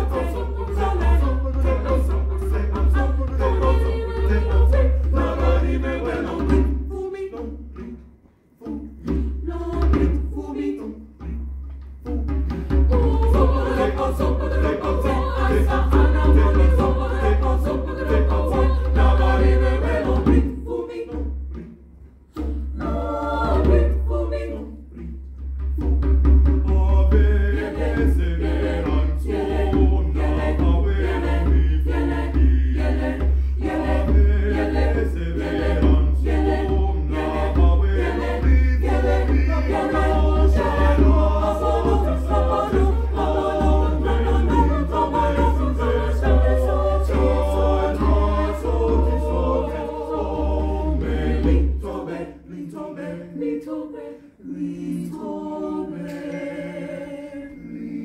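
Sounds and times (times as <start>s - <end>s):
choir singing a cappella: 0.0s - 58.0s.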